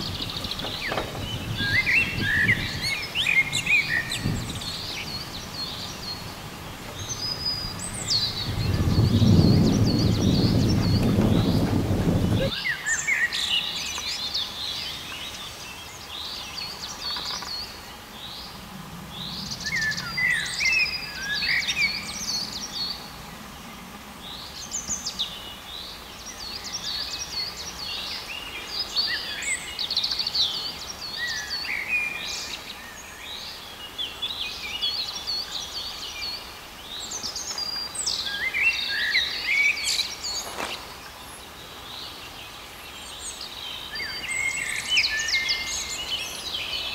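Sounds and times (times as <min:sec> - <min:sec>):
songbirds chirping and warbling: 0:00.0 - 0:46.9.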